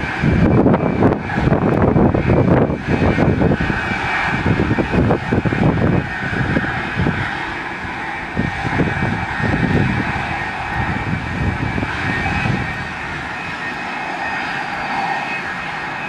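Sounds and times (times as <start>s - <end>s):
airliner engines running: 0.0s - 16.0s.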